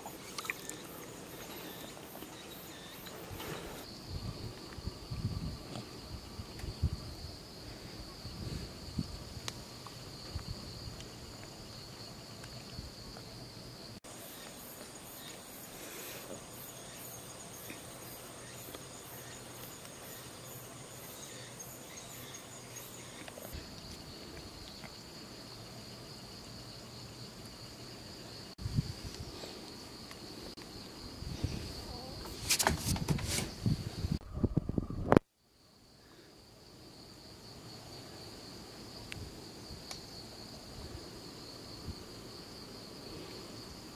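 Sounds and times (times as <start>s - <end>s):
insects trilling: 0.0s - 43.9s
pulsing high insect song: 0.0s - 43.9s.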